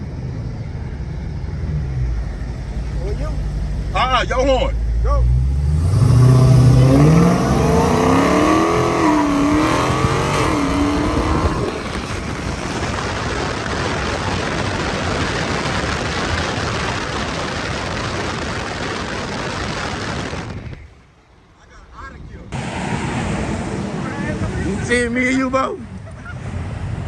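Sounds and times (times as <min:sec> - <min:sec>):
car engines at full throttle: 0:00.0 - 0:27.0.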